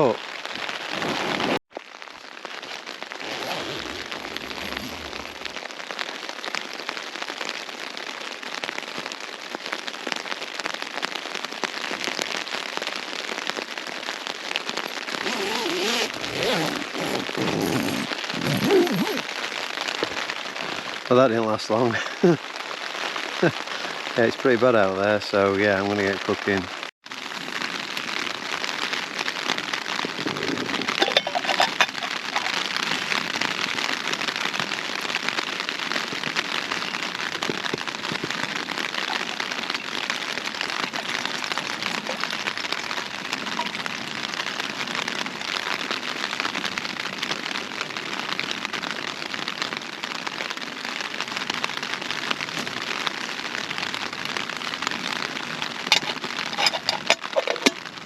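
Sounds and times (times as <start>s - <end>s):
heavy rain on tent fabric: 0.0s - 58.0s.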